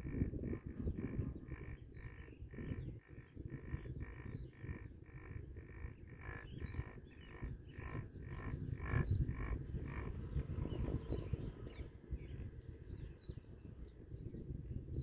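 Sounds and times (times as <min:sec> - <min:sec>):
low wind rumble: 0:00.0 - 0:15.0.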